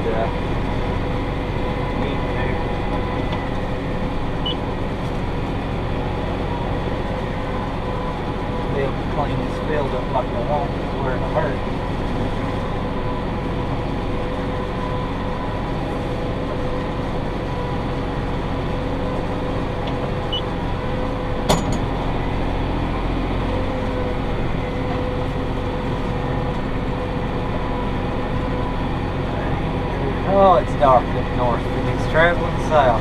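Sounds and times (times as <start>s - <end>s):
baler whine: 0.0s - 33.0s
tractor engine drone: 0.0s - 33.0s.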